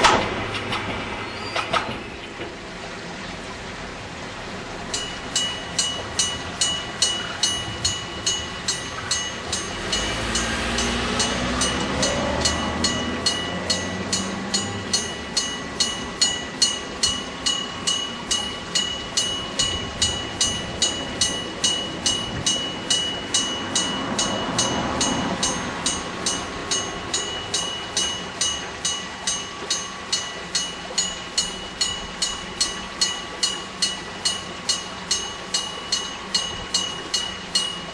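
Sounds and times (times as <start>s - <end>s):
train rumbling: 0.0s - 37.9s
railway crossing bell ringing: 4.8s - 37.9s.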